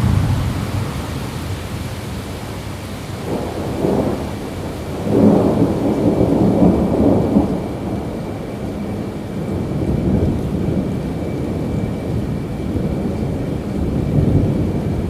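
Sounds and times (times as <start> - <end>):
rolling thunder: 0.0 - 15.0
steady rainfall: 0.0 - 15.0.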